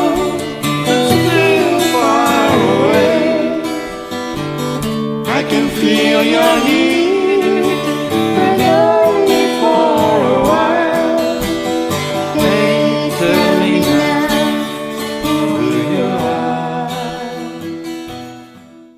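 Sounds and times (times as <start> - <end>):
melodic voice: 0.0 - 4.4, 5.3 - 17.6
acoustic guitar strumming: 0.0 - 18.9.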